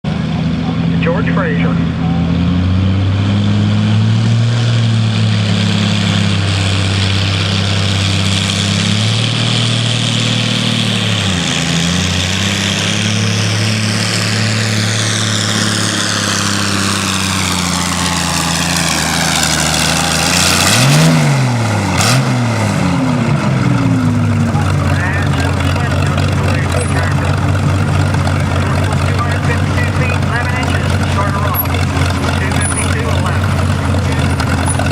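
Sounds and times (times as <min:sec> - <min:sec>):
tractor engine under load: 0:00.0 - 0:34.9.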